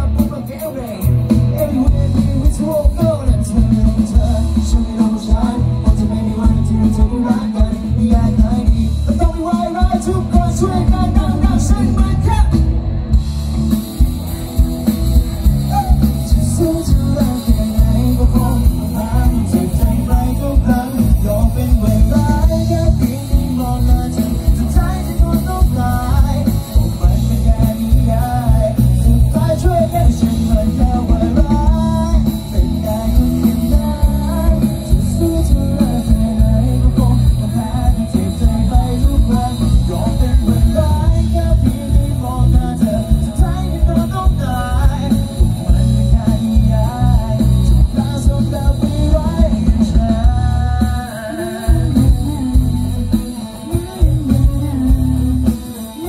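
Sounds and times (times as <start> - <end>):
person singing: 0.0 - 12.7, 13.6 - 56.0
bass guitar: 0.0 - 56.0
drums steady beat: 0.0 - 56.0
electric guitar: 0.0 - 56.0
live band music: 0.0 - 56.0.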